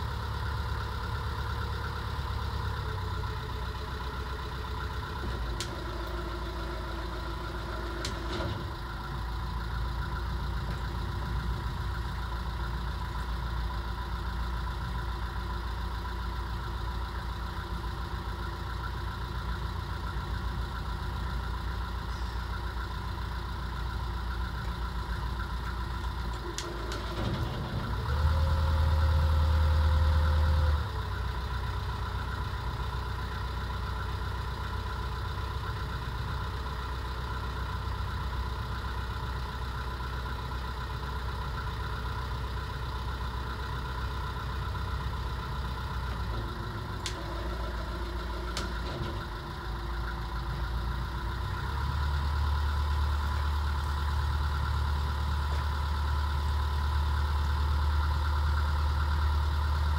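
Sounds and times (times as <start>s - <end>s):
boat diesel engine running: 0.0s - 59.9s.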